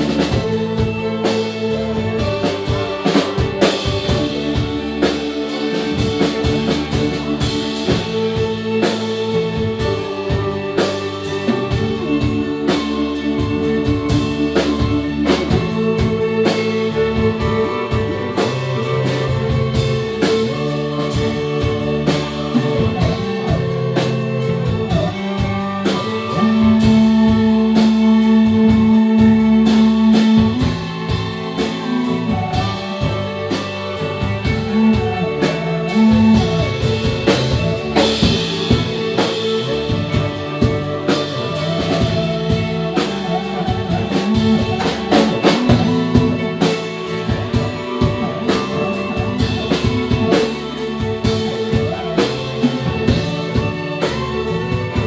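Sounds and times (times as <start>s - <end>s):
drums striking: 0.0s - 55.0s
live band music: 0.0s - 55.0s.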